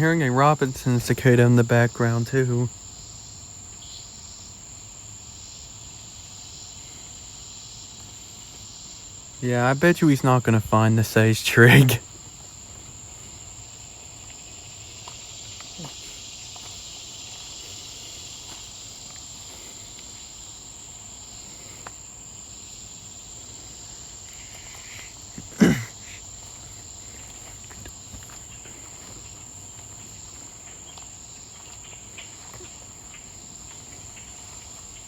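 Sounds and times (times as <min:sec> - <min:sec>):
cicada buzz: 0:00.0 - 0:35.0
insect trill: 0:00.0 - 0:35.0.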